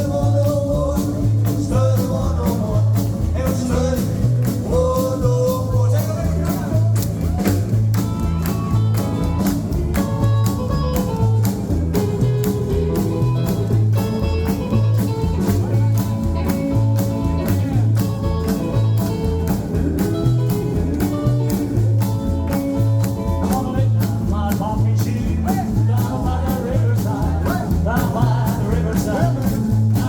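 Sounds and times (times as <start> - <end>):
rock and roll band playing: 0.0 - 30.0.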